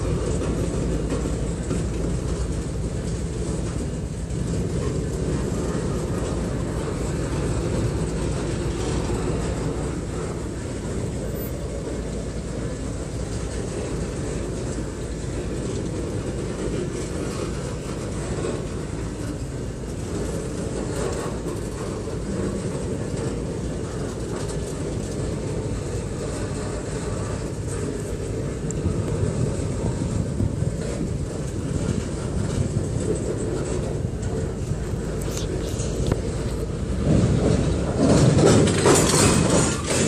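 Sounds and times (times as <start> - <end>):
clicking over rail joints: 0.0 - 40.0
train wheels rumbling on rail: 0.0 - 40.0.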